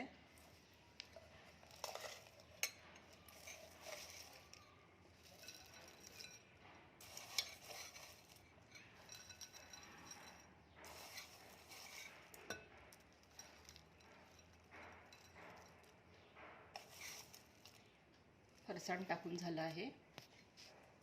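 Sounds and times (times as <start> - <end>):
snack rustling into bowl: 0.3 - 6.4, 7.0 - 16.0, 16.8 - 18.7
light clinks: 0.4 - 18.0.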